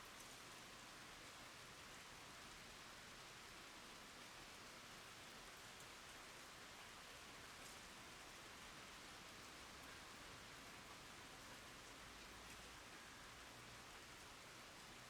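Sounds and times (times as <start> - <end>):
rain on wooden boards and water: 0.0 - 15.0.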